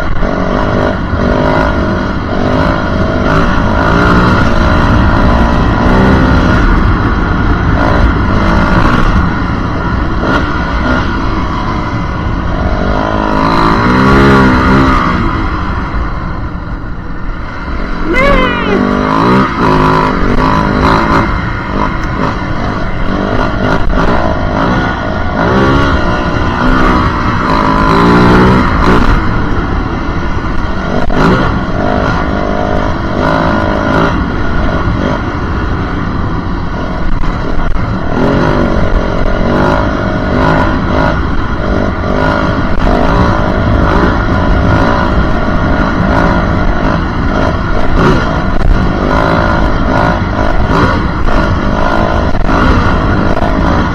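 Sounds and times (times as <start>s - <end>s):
dirt bike engine accelerating: 0.0s - 53.9s.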